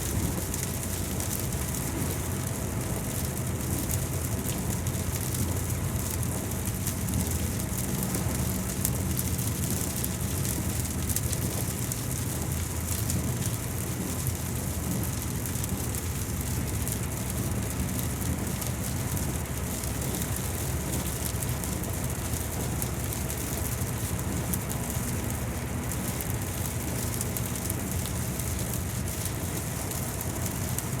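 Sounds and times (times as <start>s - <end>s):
low steady rumble: 0.0s - 31.0s
rain pattering: 0.0s - 31.0s.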